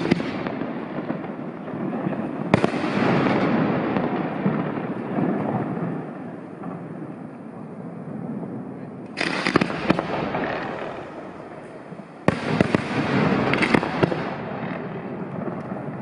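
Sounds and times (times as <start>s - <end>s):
firework shells bursting: 0.0s - 6.9s, 9.1s - 16.0s
firework crackles: 0.0s - 16.0s
rumble of distant bursts: 0.0s - 16.0s.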